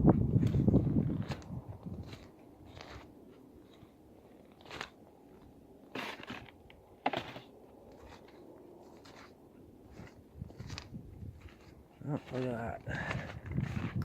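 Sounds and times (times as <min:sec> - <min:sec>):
footsteps crunching on ground: 0:00.1 - 0:14.0.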